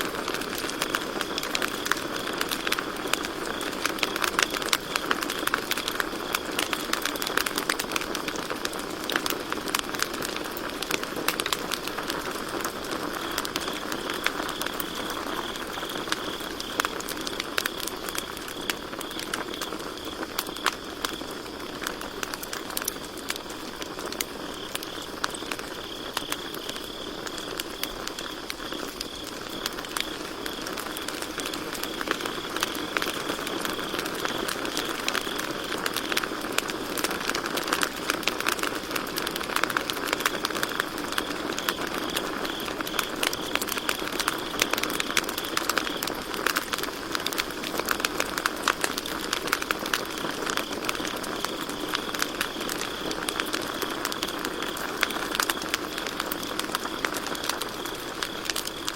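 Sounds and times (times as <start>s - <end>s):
campfire crackling and popping: 0.0s - 58.9s
crickets trilling: 0.0s - 58.9s.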